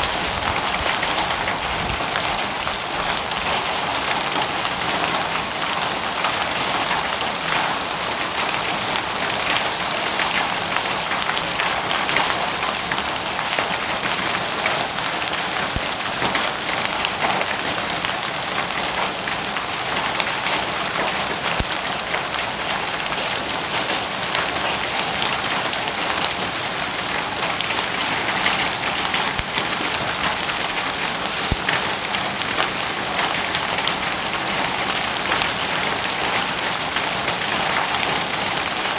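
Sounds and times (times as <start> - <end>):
hailstones clicking on ground: 0.0 - 38.9.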